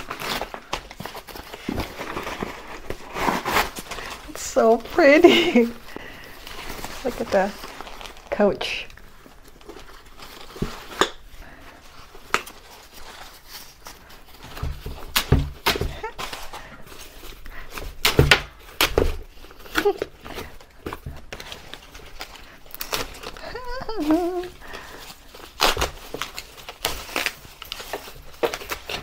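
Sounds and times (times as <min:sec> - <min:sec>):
wrapping clicks and rustles: 0:00.0 - 0:29.0.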